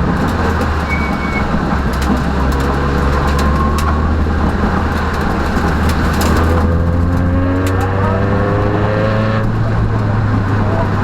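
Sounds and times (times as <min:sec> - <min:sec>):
car engine drone: 0:00.0 - 0:11.0
tyre noise: 0:00.0 - 0:11.0.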